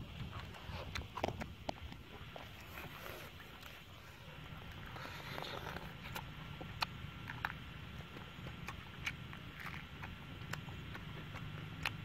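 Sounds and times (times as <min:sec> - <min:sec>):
chewing and lip-smacking: 0:00.0 - 0:12.0
steady low hum: 0:00.0 - 0:12.0.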